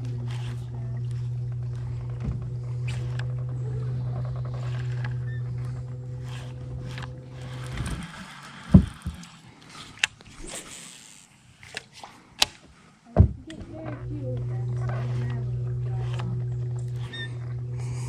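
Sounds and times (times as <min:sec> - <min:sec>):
electric motor humming: 0:00.0 - 0:11.9, 0:13.1 - 0:18.0.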